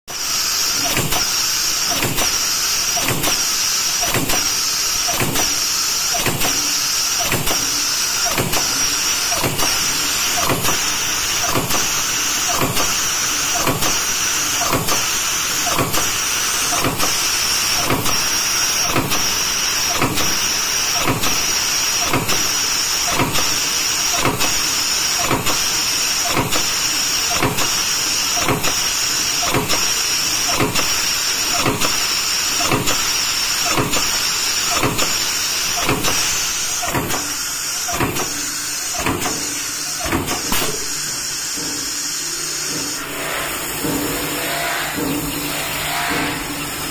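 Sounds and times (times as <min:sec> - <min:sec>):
punch press strokes: 0:00.2 - 0:24.6, 0:25.2 - 0:46.8.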